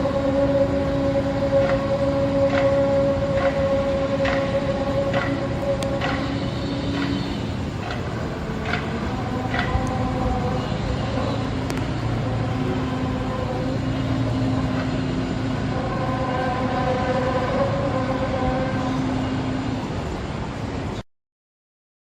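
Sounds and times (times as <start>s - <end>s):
drone of held tones: 0.0s - 20.0s.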